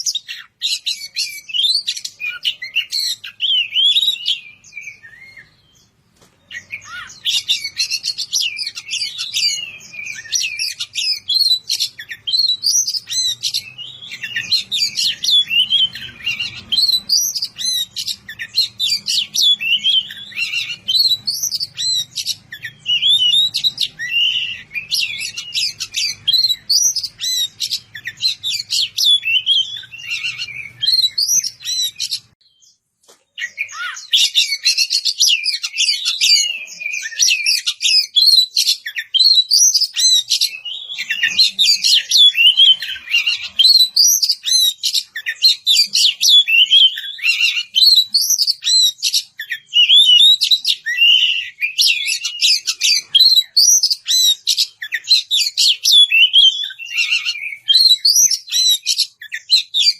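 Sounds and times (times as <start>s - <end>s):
bird singing whistles and chatter: 0.0s - 5.9s, 6.5s - 32.7s, 33.4s - 59.9s.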